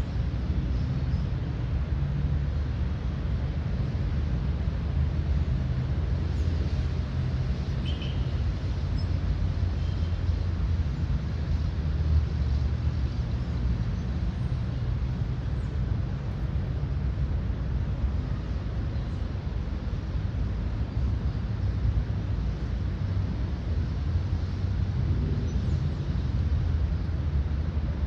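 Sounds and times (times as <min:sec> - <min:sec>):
low rumble of park ambience: 0:00.0 - 0:28.0.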